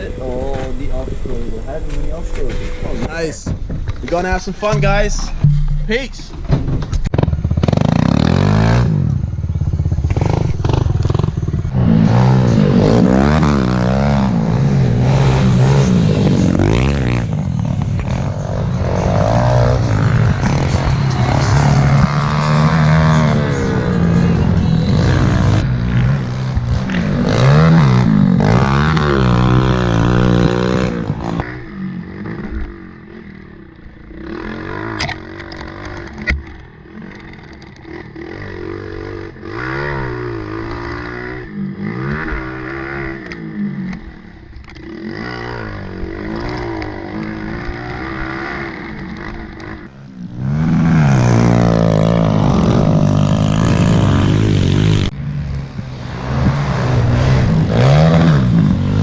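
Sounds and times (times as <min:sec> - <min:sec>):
pit bike engines revving: 0:00.0 - 0:59.0.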